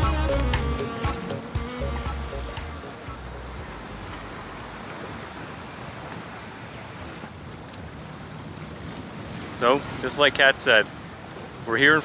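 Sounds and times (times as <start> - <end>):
water rushing: 0.0 - 12.0
wind: 0.0 - 12.0.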